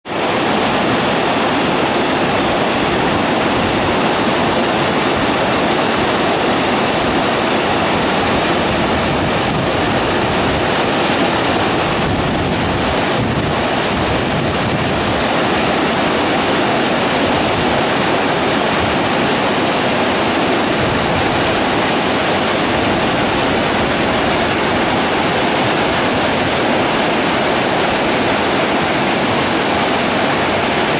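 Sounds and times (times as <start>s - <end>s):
waterfall rushing over rock: 0.1s - 30.9s.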